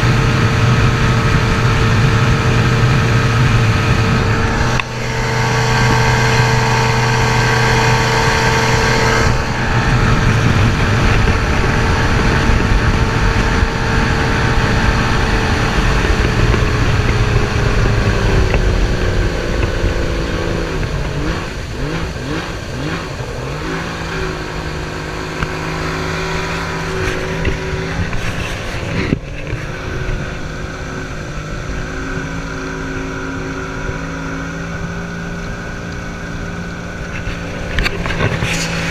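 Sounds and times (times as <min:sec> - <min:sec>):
outboard motor running hard: 0:00.0 - 0:38.9.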